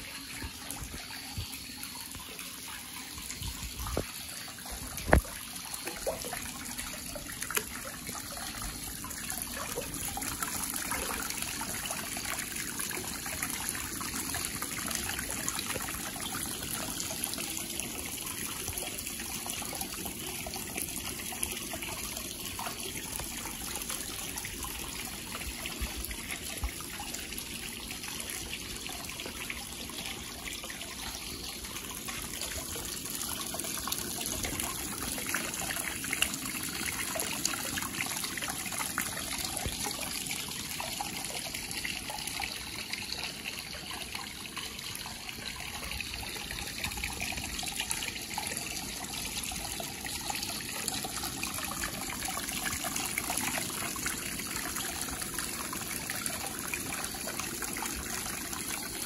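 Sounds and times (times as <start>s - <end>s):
water pouring over rocks: 0.0s - 59.0s.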